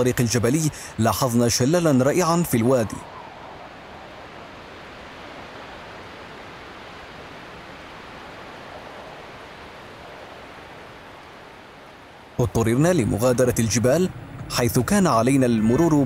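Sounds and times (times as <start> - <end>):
distant waterfall rushing: 0.0 - 16.0.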